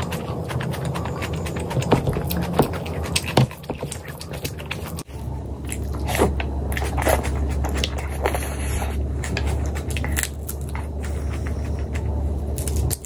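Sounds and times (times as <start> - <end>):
person chewing: 0.0 - 13.0
steady low hum: 0.0 - 13.0.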